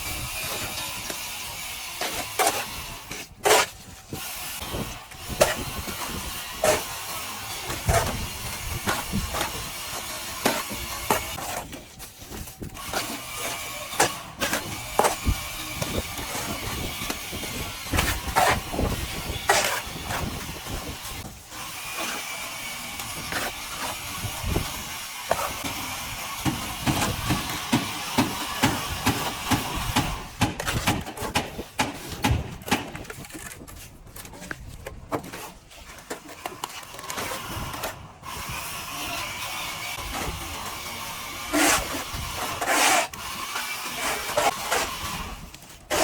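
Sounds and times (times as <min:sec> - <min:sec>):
plastering tools scraping plaster: 0:00.0 - 0:46.0.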